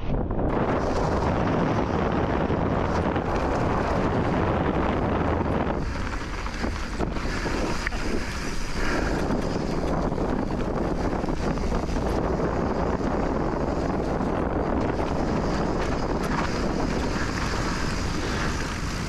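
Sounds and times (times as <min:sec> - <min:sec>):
wind buffeting microphone: 0:00.0 - 0:19.0
tyre and bike rattle: 0:00.6 - 0:19.0.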